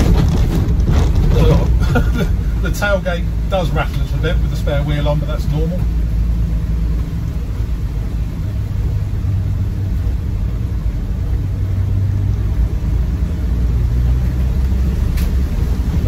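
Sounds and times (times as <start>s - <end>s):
diesel engine droning: 0.0s - 16.0s
tyre and road rumble: 0.0s - 16.0s.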